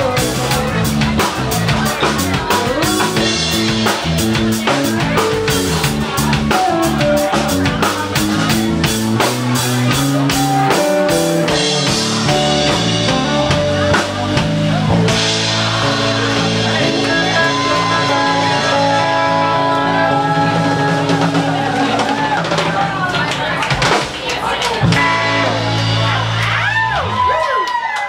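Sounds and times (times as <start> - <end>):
electric guitar: 0.0 - 24.0, 24.8 - 28.0
drum kit steady beat: 0.0 - 27.5
bass guitar: 0.0 - 28.0.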